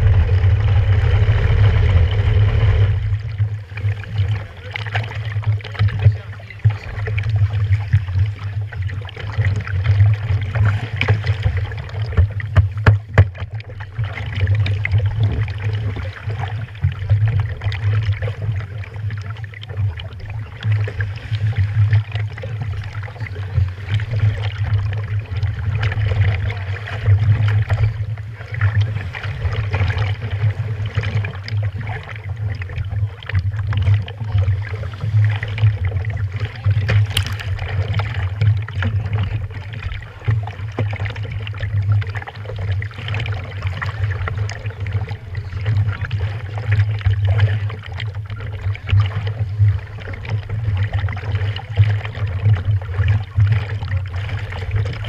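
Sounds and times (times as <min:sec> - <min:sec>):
pulsing low hum: 0:00.0 - 0:55.0
water lapping against hull: 0:00.0 - 0:55.0.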